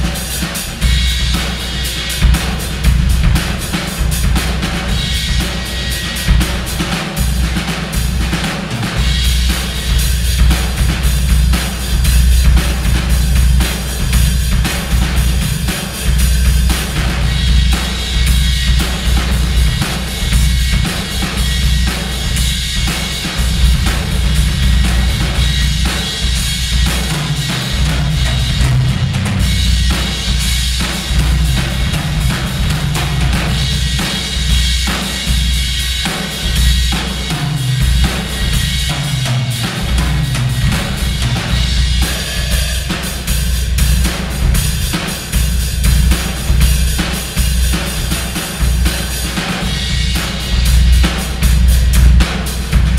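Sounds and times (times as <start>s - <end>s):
drum kit playing a groove: 0.0s - 52.9s.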